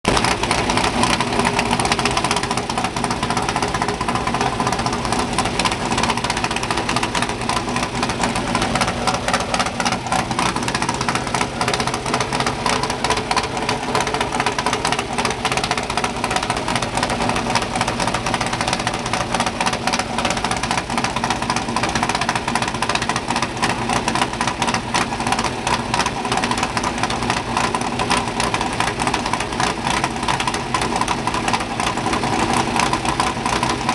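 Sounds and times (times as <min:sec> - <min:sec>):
race engine idling: 0:00.0 - 0:33.9.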